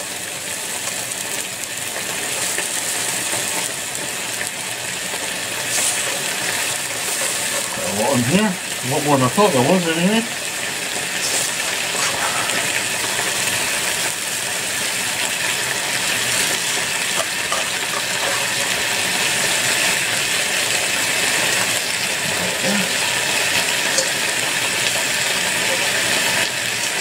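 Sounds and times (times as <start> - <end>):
stir fry sizzling in a pan: 0.0 - 27.0.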